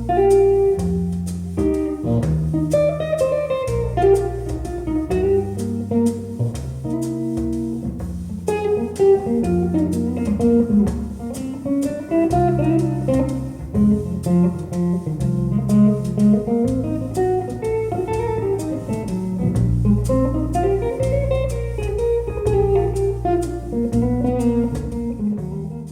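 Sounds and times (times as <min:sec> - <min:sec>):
bass notes: 0:00.0 - 0:25.9
guitar: 0:00.0 - 0:25.9
light percussion ticks: 0:00.0 - 0:25.9.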